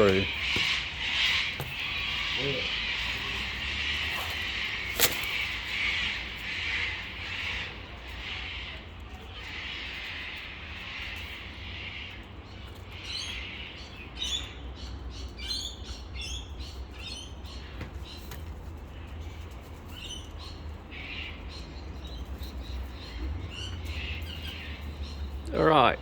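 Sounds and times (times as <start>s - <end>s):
wild birds chirping and calling: 0.0s - 26.0s.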